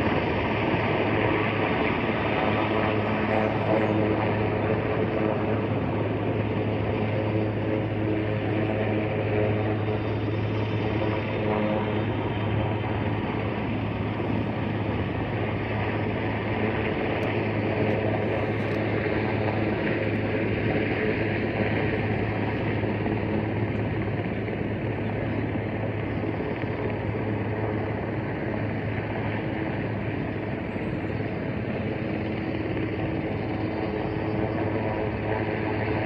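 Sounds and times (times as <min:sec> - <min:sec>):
distant helicopter hovering: 0:00.0 - 0:36.0.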